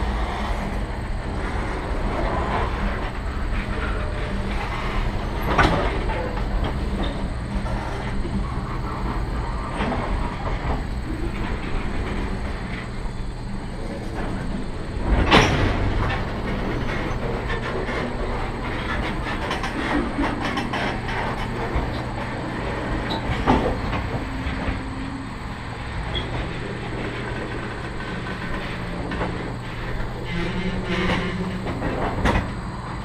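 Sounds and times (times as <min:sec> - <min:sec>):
freight wheels clattering over rails: 0:00.0 - 0:33.0.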